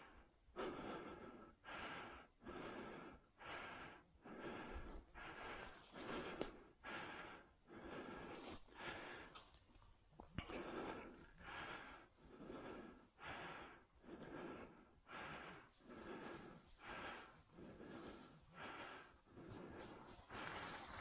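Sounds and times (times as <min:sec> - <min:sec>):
person breathing hard: 0:00.0 - 0:21.0.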